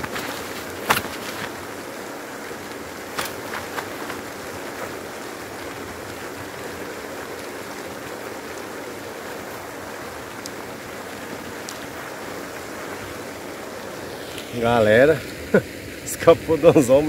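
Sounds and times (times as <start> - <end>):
pond aerator spraying water: 0.0 - 17.0.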